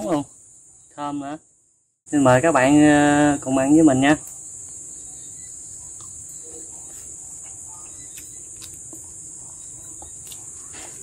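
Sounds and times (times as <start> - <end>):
high-pitched insect drone: 2.1 - 11.0.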